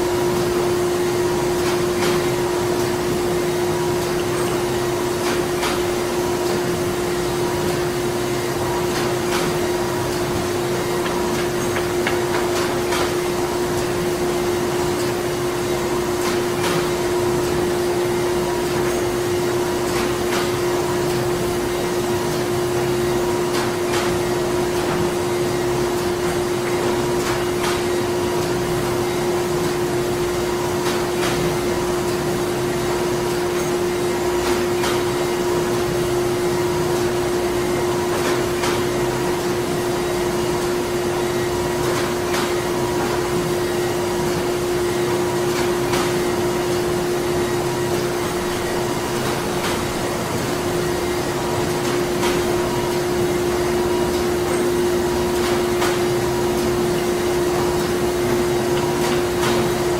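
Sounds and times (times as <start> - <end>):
printing machinery humming: 0.0 - 59.9.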